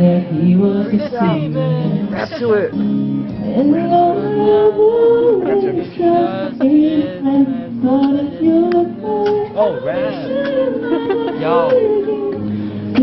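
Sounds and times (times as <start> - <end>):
person singing pop melody: 0.0 - 13.0.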